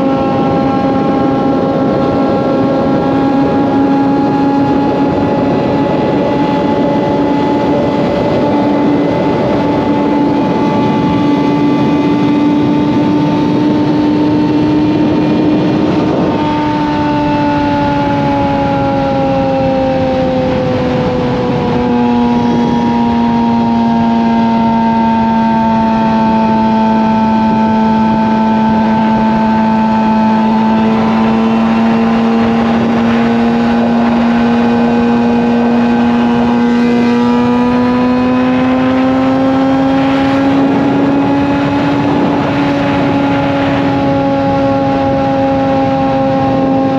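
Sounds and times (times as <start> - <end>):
motorcycle engine cruising: 0.0 - 46.9
wind noise: 0.0 - 46.9.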